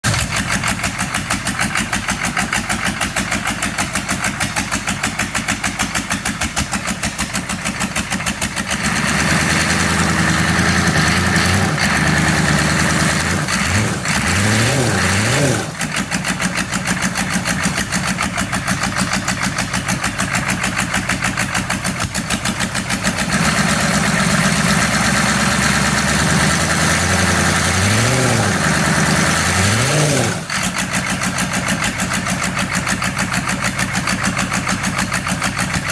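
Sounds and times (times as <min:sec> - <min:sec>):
engine idling roughly: 0:00.0 - 0:35.9.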